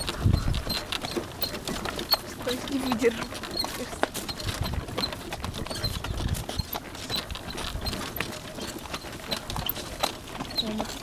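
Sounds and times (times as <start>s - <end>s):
cart rattling and knocking: 0.0s - 11.0s
horse hooves clicking: 0.0s - 11.0s.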